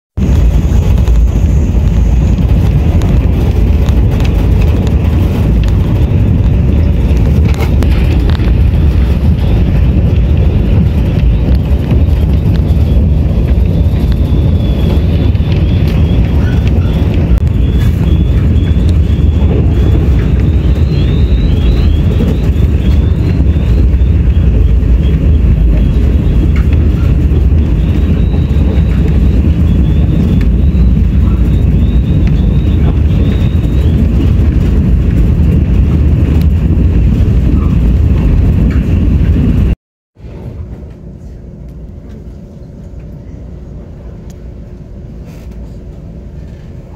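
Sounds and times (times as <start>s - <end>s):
train wheels rumbling on rail: 0.2s - 46.9s.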